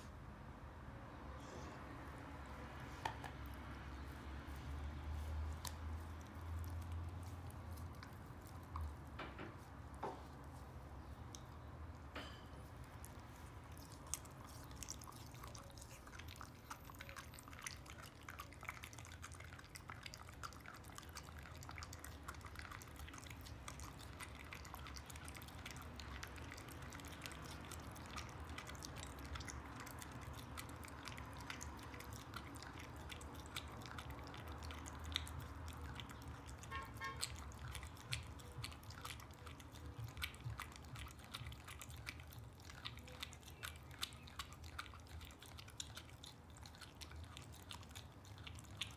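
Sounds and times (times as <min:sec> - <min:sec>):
dog chewing on bone: 0:02.6 - 0:48.9.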